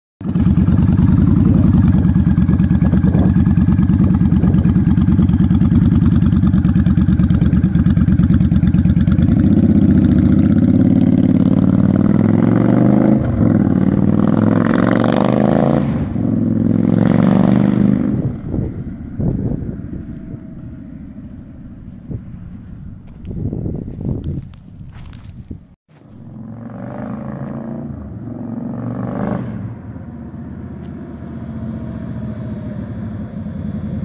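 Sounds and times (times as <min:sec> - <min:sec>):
motorcycle engine idling and accelerating: 0:00.2 - 0:34.0.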